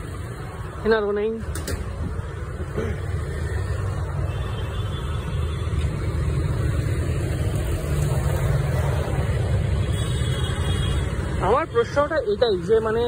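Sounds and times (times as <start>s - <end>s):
bus running: 0.0s - 13.0s
city street traffic rumble: 0.0s - 13.0s
motorbikes: 0.0s - 13.0s.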